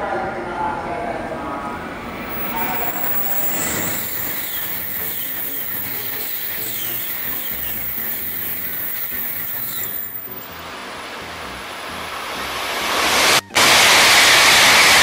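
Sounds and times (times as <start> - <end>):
bullet train passing: 0.4 - 13.5.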